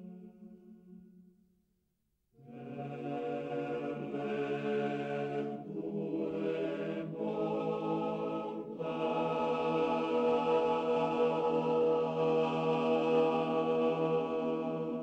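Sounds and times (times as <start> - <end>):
slow chant-like held chords: 0.0 - 1.2, 2.4 - 15.0.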